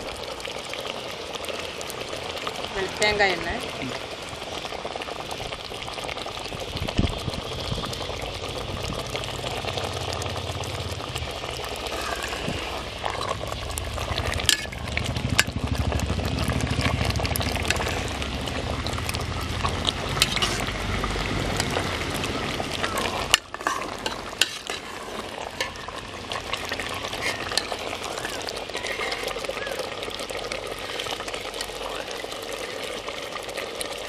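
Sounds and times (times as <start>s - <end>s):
thick liquid bubbling in a pot: 0.0s - 34.0s.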